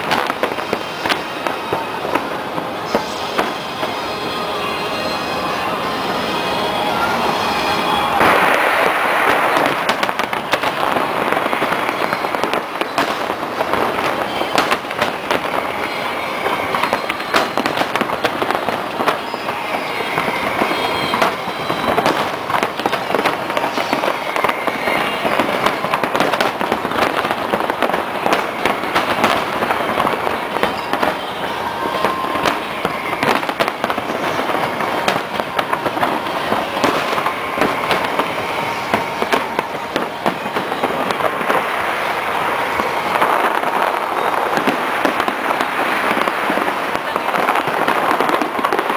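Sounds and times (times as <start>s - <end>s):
fireworks bursts and crackling: 0.0s - 48.9s.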